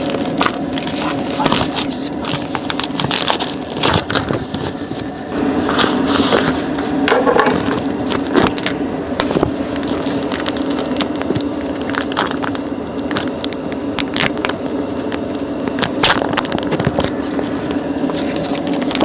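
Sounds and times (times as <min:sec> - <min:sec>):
packets torn open: 0:00.0 - 0:04.8, 0:08.1 - 0:19.0
plastic packaging crinkling: 0:00.0 - 0:06.8, 0:07.6 - 0:19.0
steady low hum: 0:00.0 - 0:19.0.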